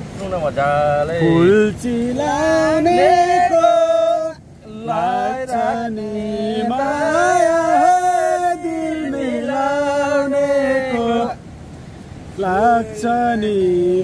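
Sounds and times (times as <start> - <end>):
person singing folk song: 0.9 - 11.4, 12.3 - 14.0.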